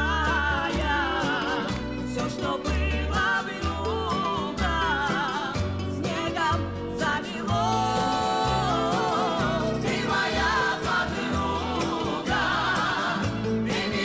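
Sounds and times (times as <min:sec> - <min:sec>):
bass line: 0:00.0 - 0:14.0
voices singing with vibrato: 0:00.0 - 0:14.0.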